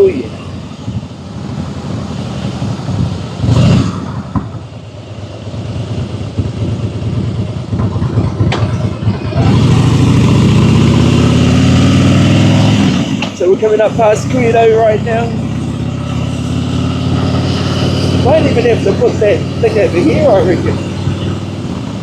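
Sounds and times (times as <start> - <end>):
motorcycle engine accelerating: 0.8 - 22.0.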